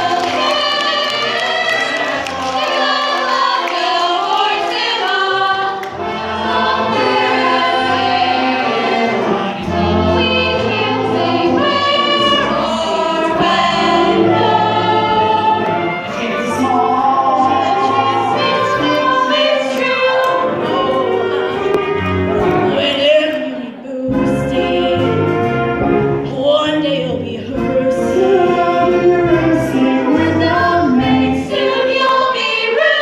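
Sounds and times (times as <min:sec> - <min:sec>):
choir singing sustained chords: 0:00.0 - 0:25.5, 0:27.5 - 0:33.0.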